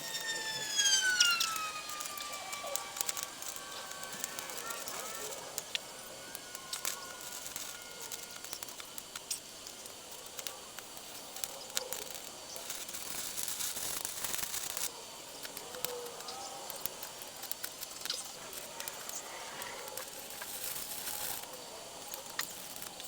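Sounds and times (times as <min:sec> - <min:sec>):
electric arc welding crackling hiss: 0:00.0 - 0:23.0.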